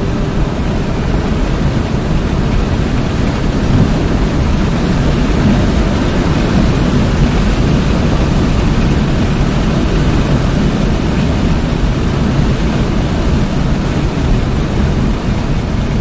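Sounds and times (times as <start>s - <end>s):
car engine running hard: 0.0s - 16.0s
wind noise: 0.0s - 16.0s
tyre noise: 0.9s - 14.3s.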